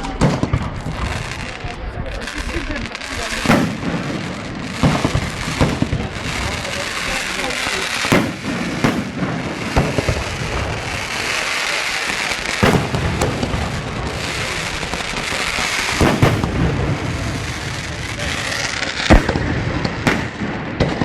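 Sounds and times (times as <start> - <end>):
crackling hiss: 0.6 - 20.4
firework shells bursting: 2.8 - 21.0.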